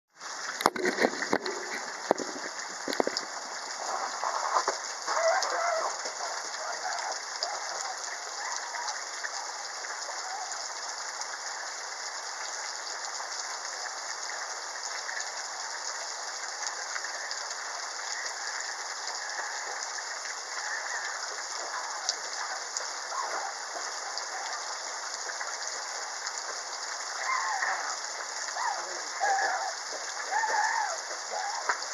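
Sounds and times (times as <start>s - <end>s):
steady rain falling: 0.1s - 31.9s.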